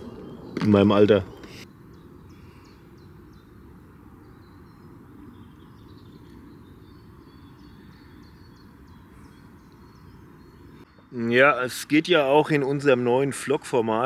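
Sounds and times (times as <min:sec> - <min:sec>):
high bird chirps: 0:00.0 - 0:12.0.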